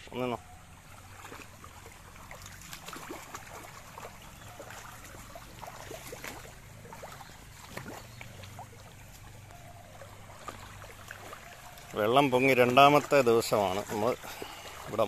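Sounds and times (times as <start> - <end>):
water flowing and gurgling: 0.0 - 15.0.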